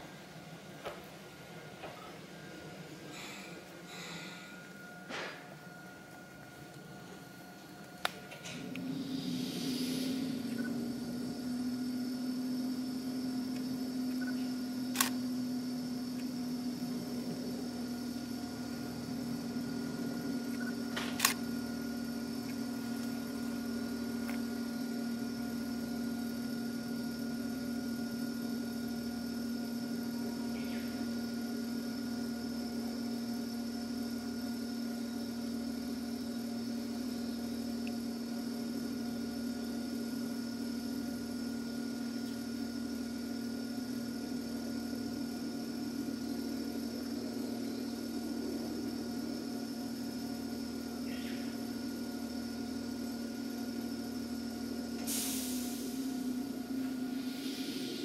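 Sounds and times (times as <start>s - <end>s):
electric train humming: 0.0s - 58.0s.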